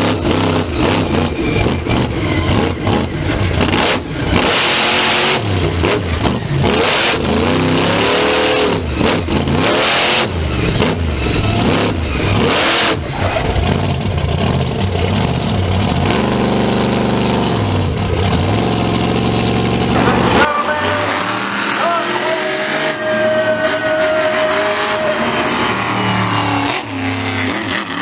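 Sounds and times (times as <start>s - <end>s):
large vehicle engine revving: 0.0s - 28.0s.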